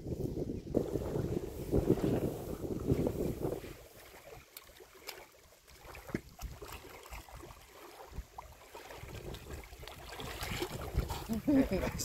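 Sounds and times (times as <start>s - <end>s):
wind buffeting microphone: 0.0s - 4.4s, 5.9s - 12.0s.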